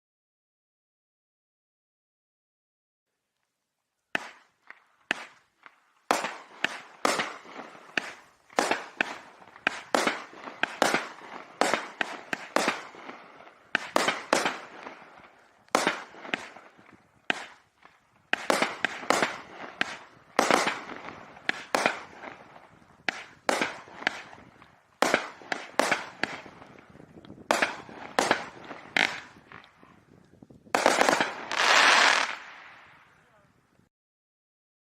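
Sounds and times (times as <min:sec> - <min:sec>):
firework stars crackling: 0:03.2 - 0:33.9
firework cake shots: 0:04.2 - 0:33.5.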